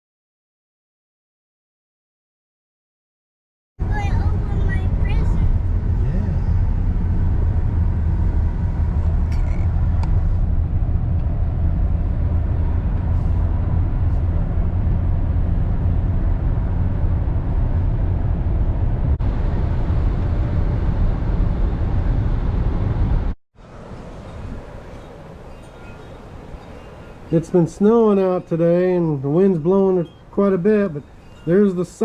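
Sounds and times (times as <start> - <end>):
truck engine and road rumble: 3.8 - 32.0.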